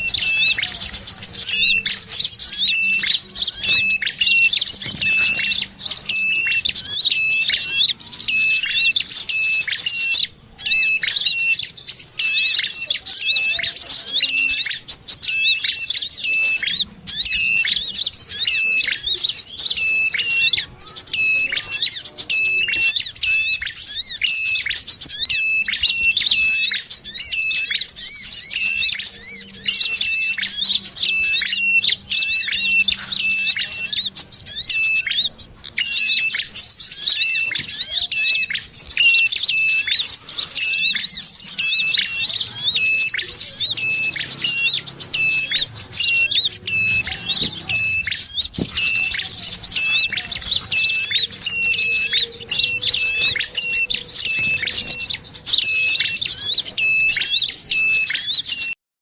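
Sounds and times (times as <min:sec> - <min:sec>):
small birds chirping and chattering: 0:00.0 - 0:58.8.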